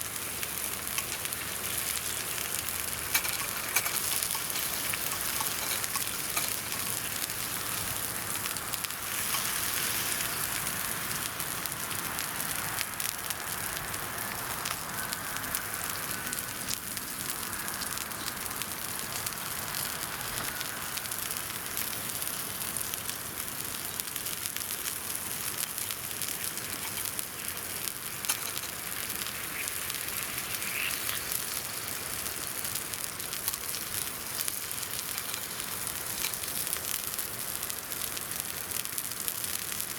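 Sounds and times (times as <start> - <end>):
campfire crackling and popping: 0.0 - 39.9
sizzling hiss: 0.0 - 39.9.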